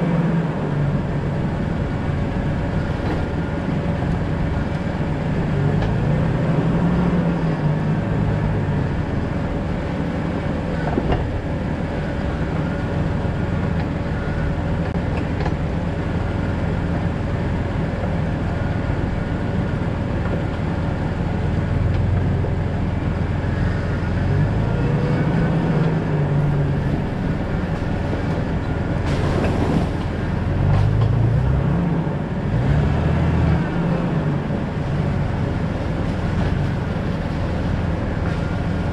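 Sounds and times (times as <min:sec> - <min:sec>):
car engine driving: 0:00.0 - 0:38.9
road noise: 0:00.0 - 0:38.9.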